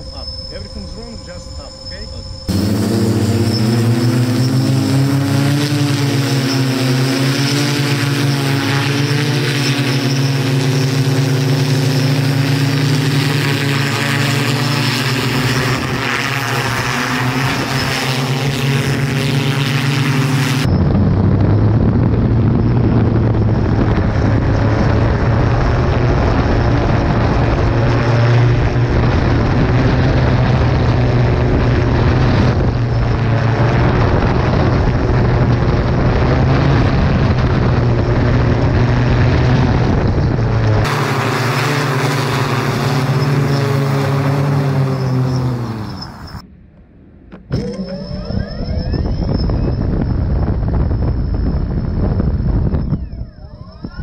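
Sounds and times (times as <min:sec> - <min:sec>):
propellers droning: 0:00.0 - 0:54.0.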